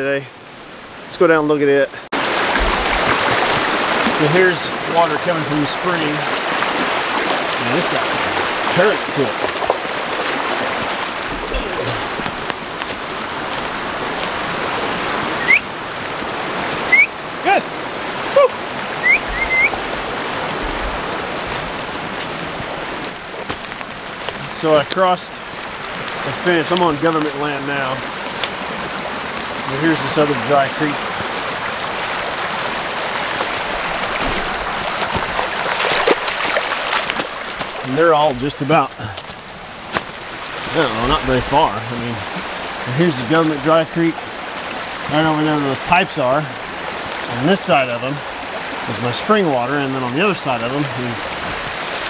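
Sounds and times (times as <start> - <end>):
creek rushing: 0.0 - 52.0.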